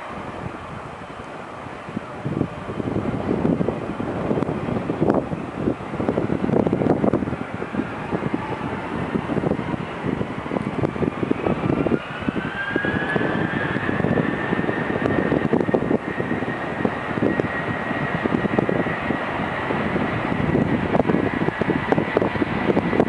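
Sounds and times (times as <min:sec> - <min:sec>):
jet engine rumble: 0:00.0 - 0:23.0
jet engine whine: 0:00.0 - 0:23.0.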